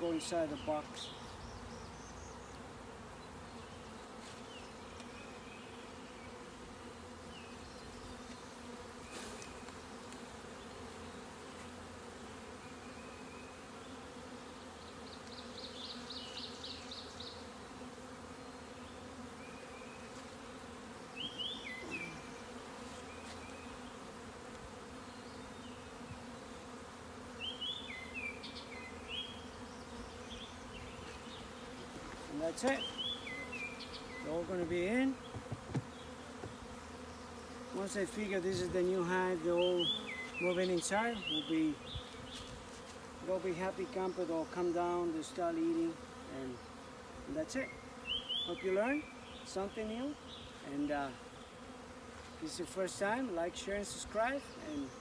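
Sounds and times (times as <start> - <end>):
bees humming: 0.0 - 55.0.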